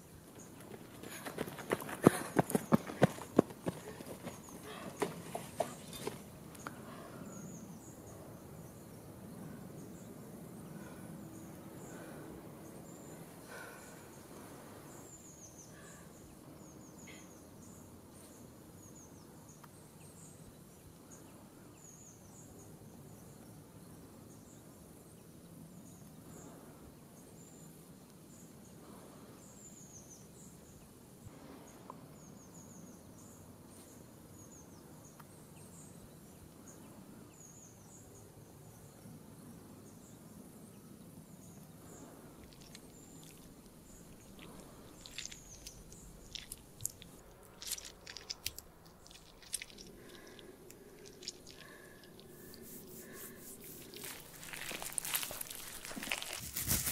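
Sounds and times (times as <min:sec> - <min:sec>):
soft steady background: 0:03.2 - 0:56.9.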